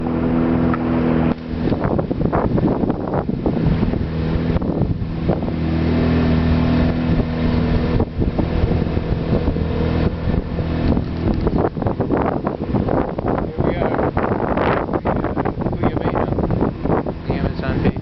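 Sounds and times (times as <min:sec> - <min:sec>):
outboard motor running: 0:00.0 - 0:18.0
wind buffeting microphone: 0:00.0 - 0:18.0.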